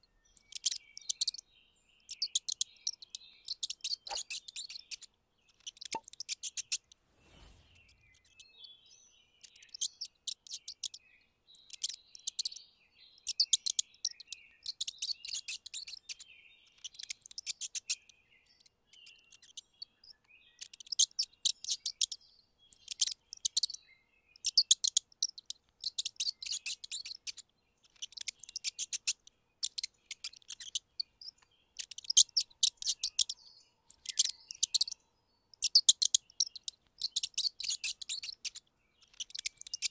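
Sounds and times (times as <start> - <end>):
mice squeaking: 0.3 - 1.4, 2.0 - 12.6, 13.2 - 23.8, 24.4 - 39.9.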